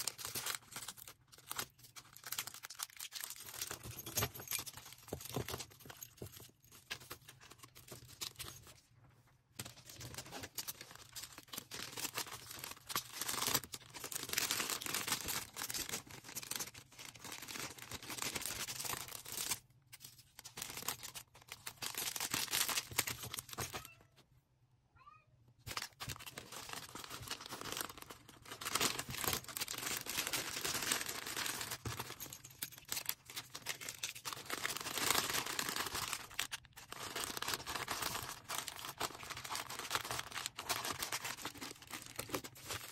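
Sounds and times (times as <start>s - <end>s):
plastic packaging crinkling: 0.0s - 8.8s, 9.6s - 24.0s, 25.7s - 42.9s.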